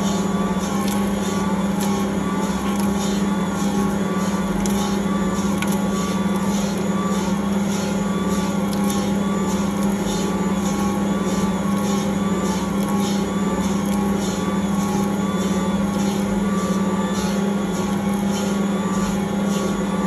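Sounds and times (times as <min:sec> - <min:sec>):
stand mixer motor humming: 0:00.0 - 0:20.0.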